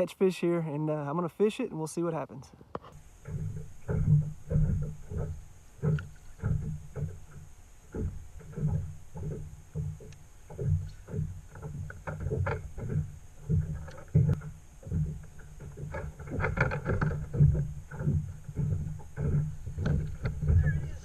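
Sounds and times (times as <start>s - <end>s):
water knocking against plastic hull: 2.8s - 21.0s.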